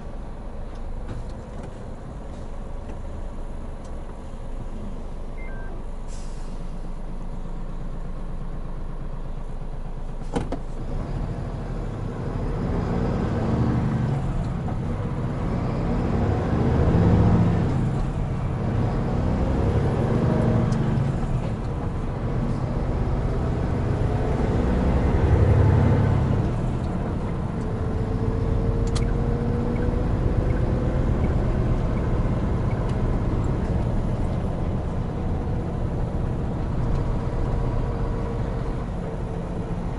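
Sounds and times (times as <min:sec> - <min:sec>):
truck diesel engine pulling: 0:00.0 - 0:39.9.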